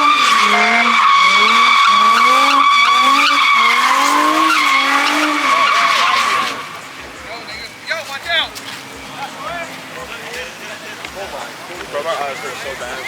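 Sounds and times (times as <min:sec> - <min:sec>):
car engine revving: 0:00.0 - 0:13.0
tyres squealing: 0:00.0 - 0:13.0.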